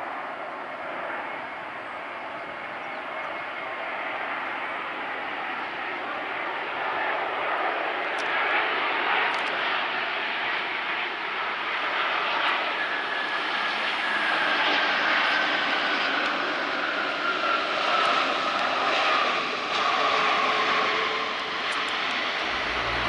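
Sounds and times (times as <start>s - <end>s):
jet engine whine falling in pitch: 0.0s - 23.0s
jet engines roaring: 0.0s - 23.0s.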